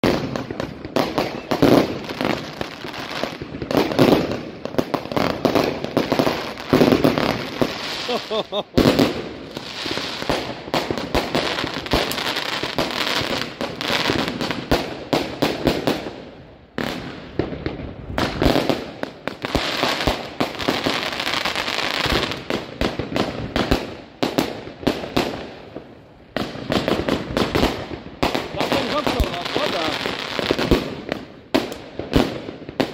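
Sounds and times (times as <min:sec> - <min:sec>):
firework crackling pops: 0:00.0 - 0:32.9.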